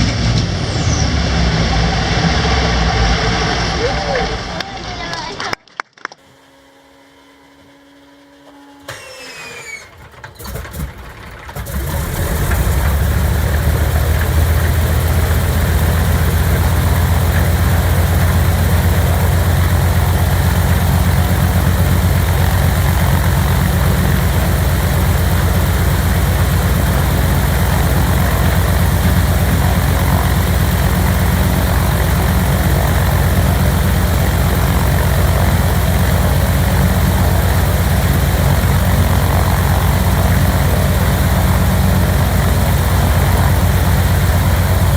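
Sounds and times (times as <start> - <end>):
aircraft engine coughing and running: 0.0 - 5.6, 6.2 - 44.9
starter whine: 0.0 - 44.9.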